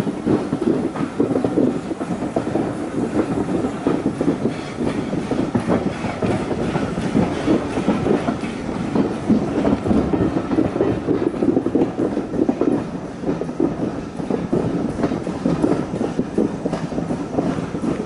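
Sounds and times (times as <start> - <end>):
train wheels clattering over rail joints: 0.0 - 18.0.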